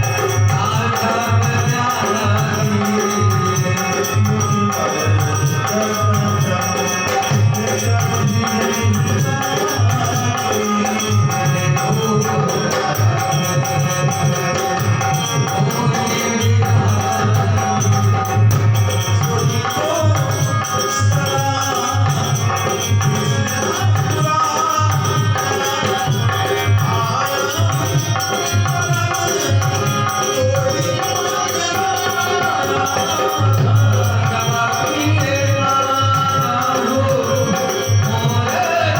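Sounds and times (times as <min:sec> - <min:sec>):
dholak drumming: 0:00.0 - 0:38.9
jingling percussion: 0:00.0 - 0:38.9.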